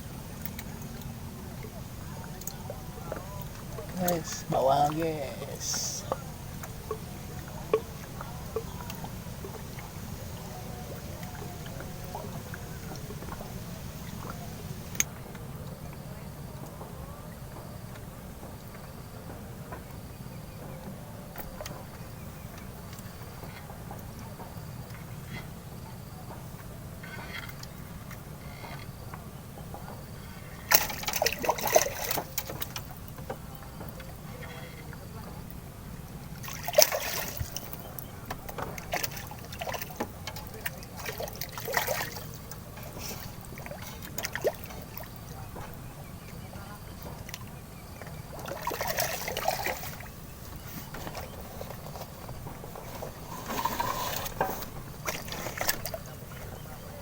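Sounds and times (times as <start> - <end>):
water splashing and sloshing: 0.0 - 16.9, 26.3 - 57.0.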